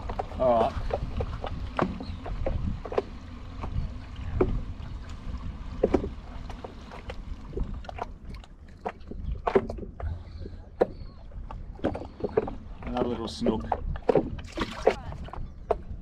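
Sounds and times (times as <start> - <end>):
small waves lapping: 0.0 - 16.0.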